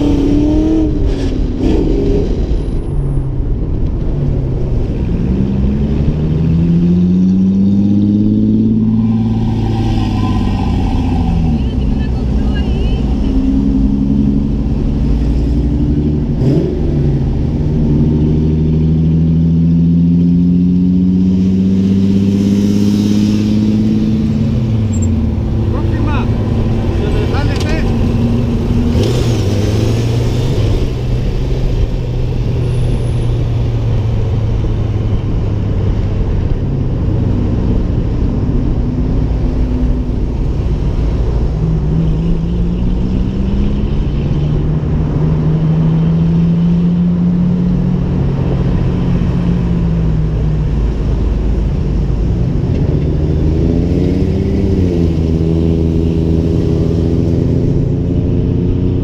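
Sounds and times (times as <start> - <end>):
car engine and exhaust rumbling: 0.0 - 59.0.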